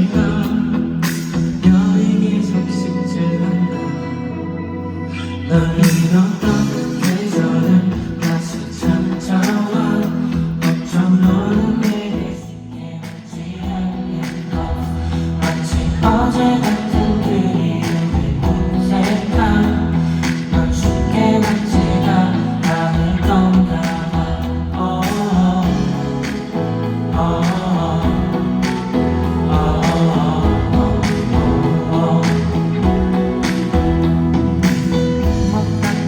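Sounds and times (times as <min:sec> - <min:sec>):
band with steady beat: 0:00.0 - 0:02.0, 0:05.8 - 0:36.0
person singing pop song: 0:00.0 - 0:36.0.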